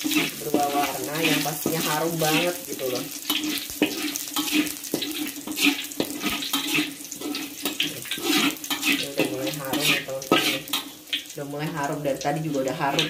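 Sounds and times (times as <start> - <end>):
spatula scraping and knocking pan: 0.0 - 11.3, 12.5 - 13.0
food sizzling in hot oil: 0.0 - 13.0.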